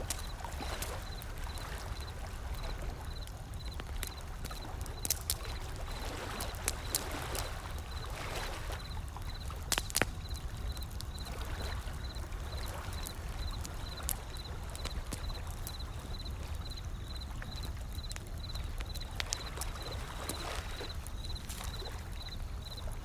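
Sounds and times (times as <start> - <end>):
wood fire crackling and popping: 0.0 - 22.8.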